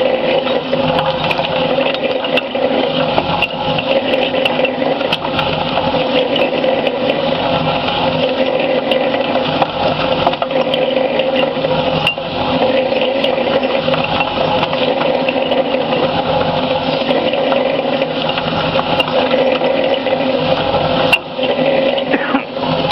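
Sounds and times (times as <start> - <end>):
steel balls tumbling in mixer: 0.0 - 22.9.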